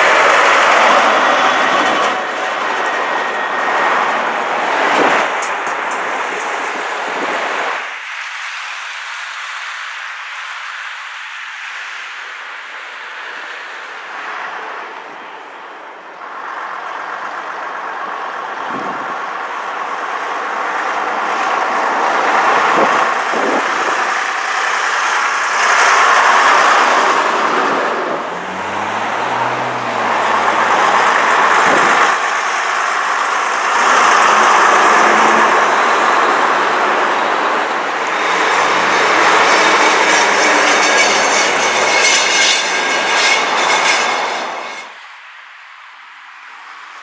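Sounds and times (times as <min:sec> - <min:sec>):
bus diesel engine passing: 0:00.0 - 0:08.0, 0:12.9 - 0:45.0
street traffic: 0:00.0 - 0:47.0.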